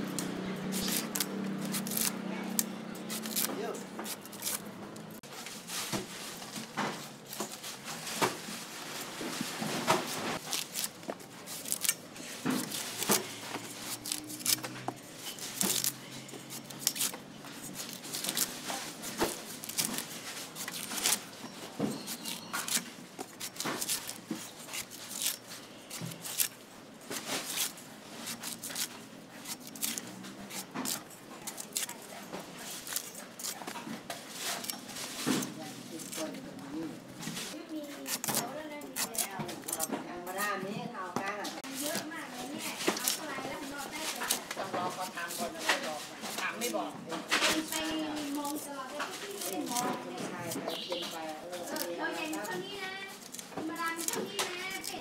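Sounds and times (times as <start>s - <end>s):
knife slicing coconut husk: 0.0s - 5.2s, 9.9s - 36.4s, 37.4s - 40.6s, 41.6s - 55.0s.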